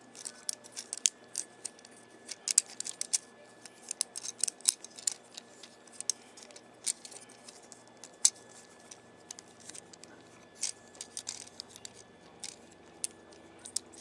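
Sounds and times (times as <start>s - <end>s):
plastic toy parts clicking: 0.2s - 14.0s.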